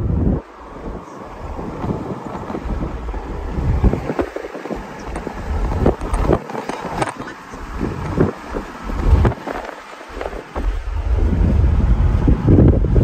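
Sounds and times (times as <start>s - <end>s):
car road rumble: 0.0s - 13.0s
wind buffeting microphone: 0.0s - 13.0s.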